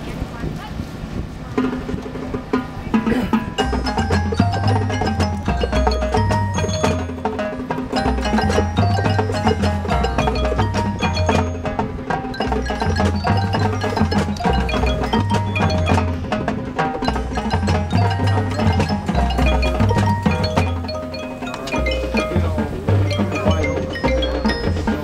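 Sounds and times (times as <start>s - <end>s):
marching band playing: 1.4s - 25.0s
marimbas playing quick notes: 2.5s - 25.0s.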